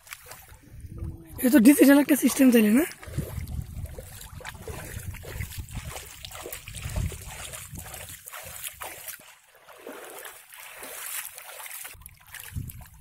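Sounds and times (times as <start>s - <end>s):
water splashing from wading: 0.0s - 13.0s.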